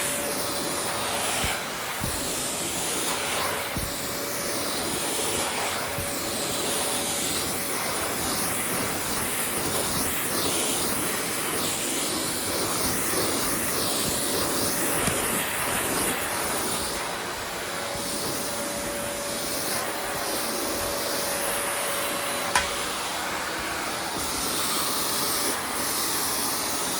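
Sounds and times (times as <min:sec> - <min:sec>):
vacuum cleaner running: 0:00.0 - 0:26.9.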